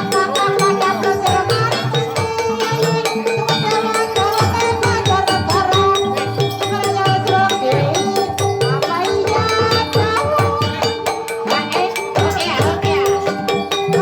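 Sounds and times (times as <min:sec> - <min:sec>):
hand drums: 0:00.0 - 0:14.0
tuned mallet percussion: 0:00.0 - 0:14.0.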